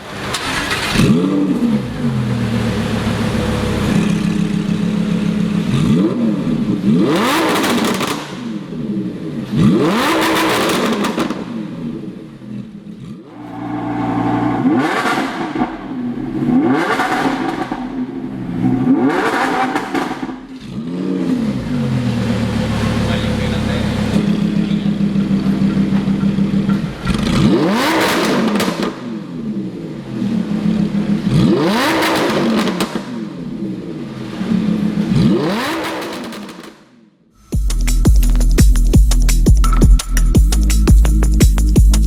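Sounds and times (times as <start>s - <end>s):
sports car engine revving: 0.0s - 36.9s.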